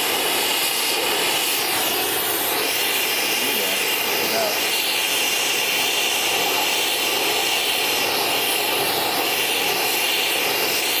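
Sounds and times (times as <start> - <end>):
torch flame hissing: 0.0 - 11.0.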